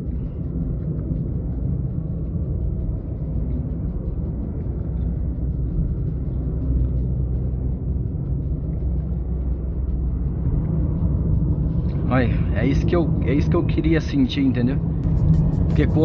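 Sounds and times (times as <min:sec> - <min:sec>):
car engine and road noise drone: 0:00.0 - 0:16.0.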